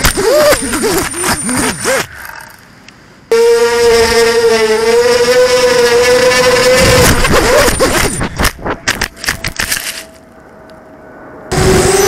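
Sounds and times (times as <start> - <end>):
drone motors humming: 0.0 - 12.0.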